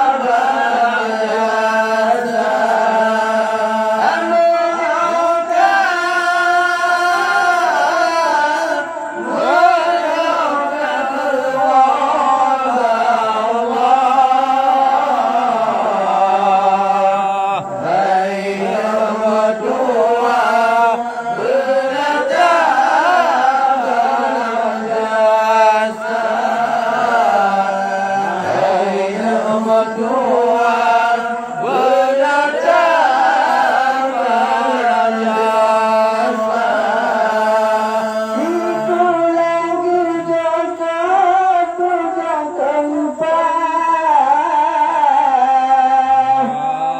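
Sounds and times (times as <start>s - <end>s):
man chanting into microphone: 0.0s - 46.9s.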